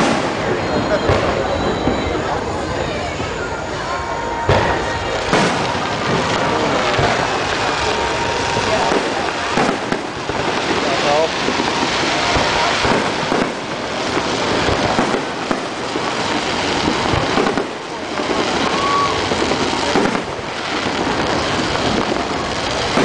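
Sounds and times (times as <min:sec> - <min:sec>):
crowd voices: 0:00.0 - 0:23.0
fireworks bursting: 0:00.0 - 0:23.0.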